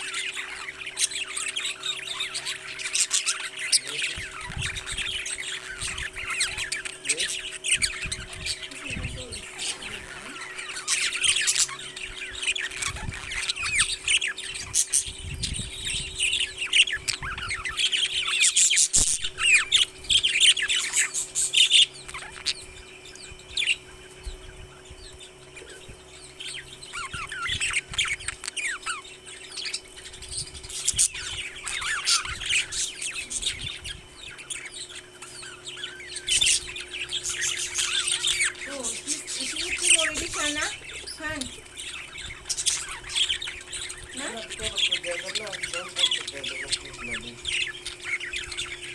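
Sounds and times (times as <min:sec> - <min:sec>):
parrots chirping and chattering: 0:00.0 - 0:48.9.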